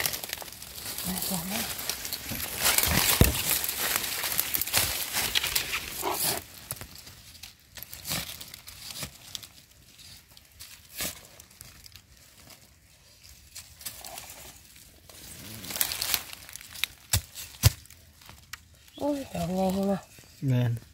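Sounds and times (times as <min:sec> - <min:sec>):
dry leaves crackling: 0:00.0 - 0:20.4.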